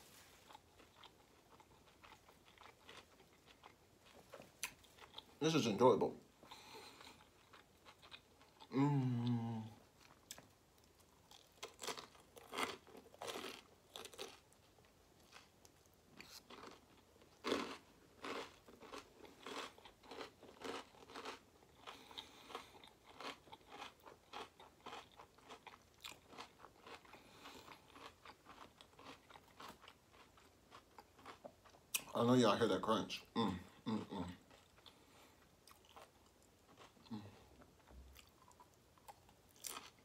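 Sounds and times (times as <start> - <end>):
chewing crunchy fried food: 0.3 - 5.4, 6.4 - 32.4, 33.9 - 40.0.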